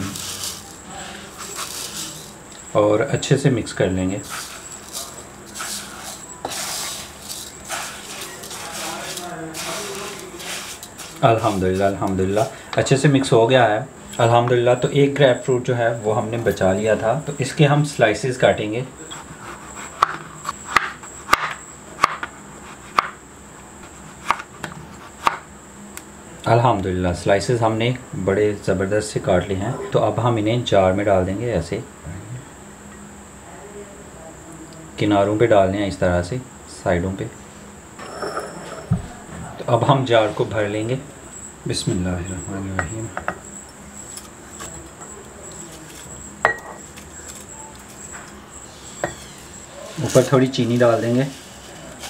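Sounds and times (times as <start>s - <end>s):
faint high whine: 0.0s - 22.6s, 24.7s - 52.0s.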